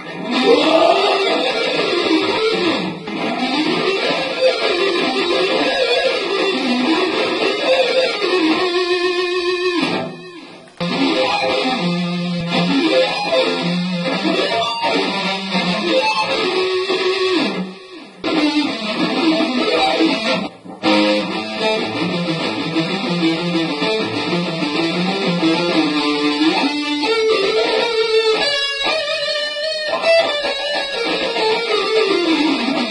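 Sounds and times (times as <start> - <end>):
distorted electric guitar shredding: 0.0 - 32.9.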